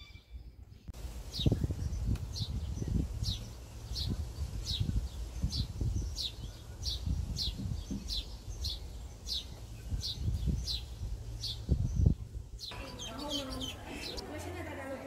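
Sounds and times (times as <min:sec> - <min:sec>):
bird chirping: 0:00.0 - 0:14.2.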